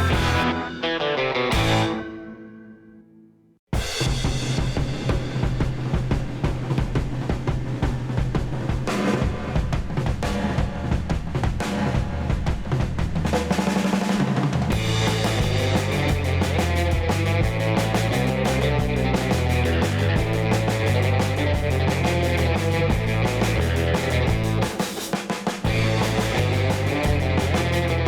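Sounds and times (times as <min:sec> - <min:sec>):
rock music with drum beat: 0:00.0 - 0:02.3, 0:03.7 - 0:28.0.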